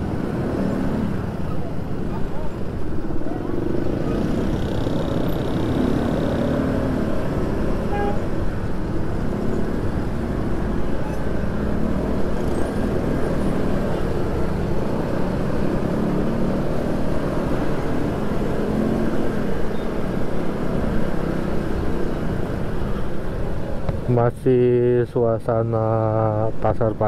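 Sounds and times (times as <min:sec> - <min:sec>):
road noise: 0:00.0 - 0:27.0
vehicle engine hum: 0:00.0 - 0:27.0.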